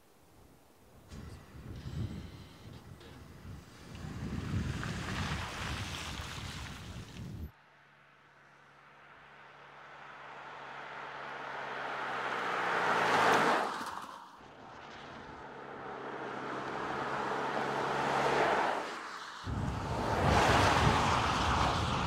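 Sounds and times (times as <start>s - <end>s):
car passing by: 3.6s - 22.0s.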